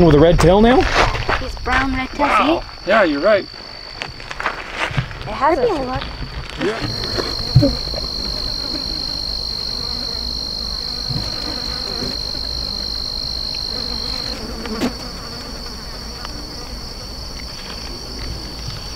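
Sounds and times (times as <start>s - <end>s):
insects droning: 0.0s - 18.9s.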